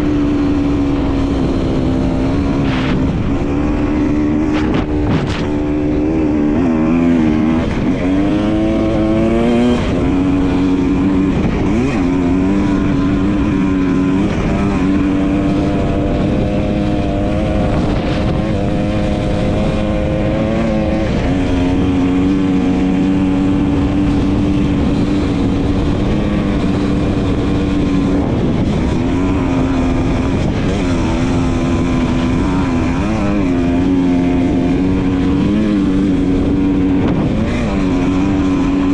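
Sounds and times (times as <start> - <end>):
constant rushing noise: 0.0 - 38.9
dirt bike engine running: 0.0 - 38.9.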